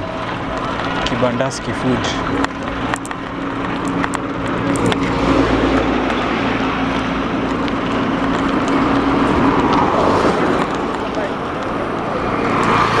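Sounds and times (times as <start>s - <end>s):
road noise: 0.0s - 13.0s
vehicle engine humming: 0.0s - 13.0s
wind noise: 0.0s - 13.0s.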